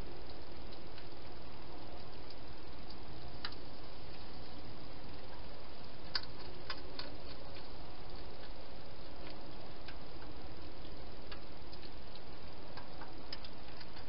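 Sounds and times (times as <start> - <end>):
hedgehog feeding clicks: 0.0 - 4.2, 5.1 - 14.0
steady background hiss: 0.0 - 14.0.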